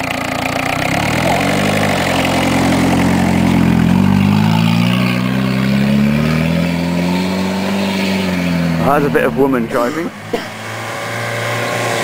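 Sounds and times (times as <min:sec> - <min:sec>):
diesel car engine revving: 0:00.0 - 0:12.0.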